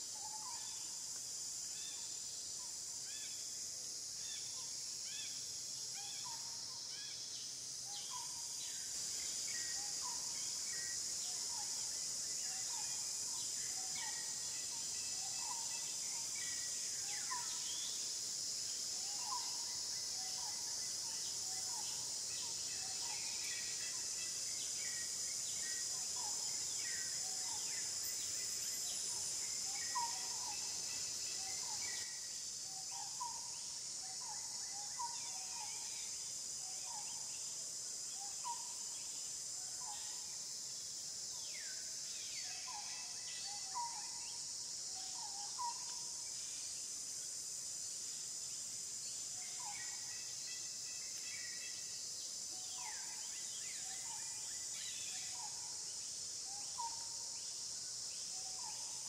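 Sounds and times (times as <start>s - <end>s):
high-pitched insect drone: 0.0s - 59.0s.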